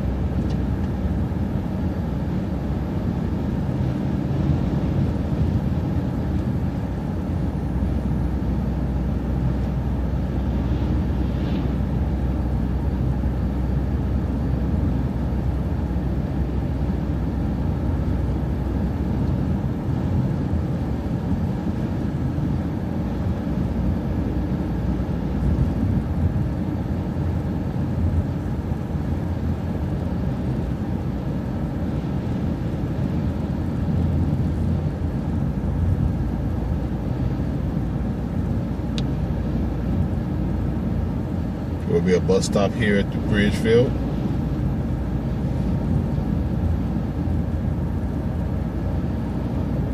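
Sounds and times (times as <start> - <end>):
bus engine drone: 0.0 - 49.9
road noise: 0.0 - 49.9.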